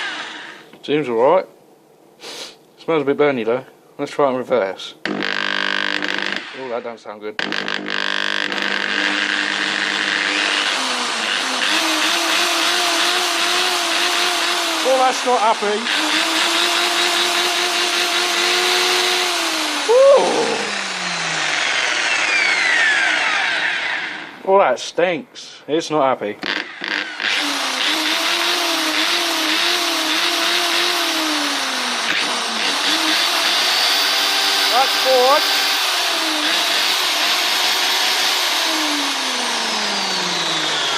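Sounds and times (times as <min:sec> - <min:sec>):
electric drill motor whining: 0:00.0 - 0:00.7, 0:05.0 - 0:06.8, 0:07.4 - 0:24.4, 0:26.4 - 0:40.9.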